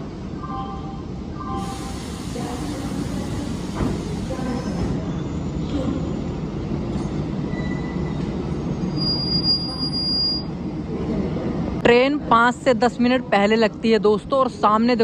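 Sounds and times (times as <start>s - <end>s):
train engine and wheels rumbling: 0.0s - 15.0s.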